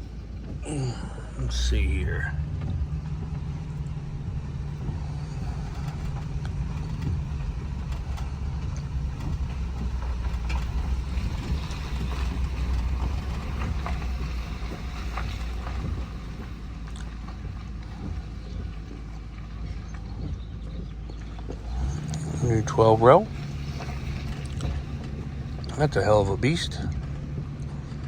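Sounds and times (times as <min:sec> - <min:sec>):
faint ticks and rattles: 0:00.0 - 0:28.0
vehicle driving rumble: 0:00.0 - 0:28.0.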